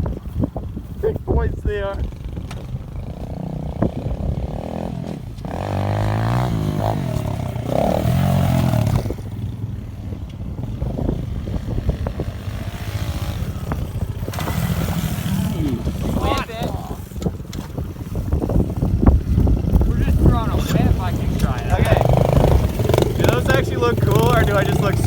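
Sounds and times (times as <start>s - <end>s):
motorbike engine revving: 1.8s - 25.0s.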